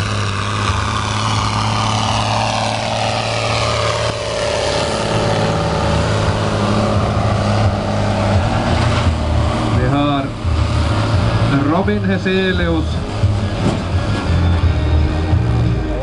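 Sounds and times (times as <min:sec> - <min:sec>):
high engine whine: 0:00.0 - 0:16.0
tractor diesel engine running: 0:00.0 - 0:16.0.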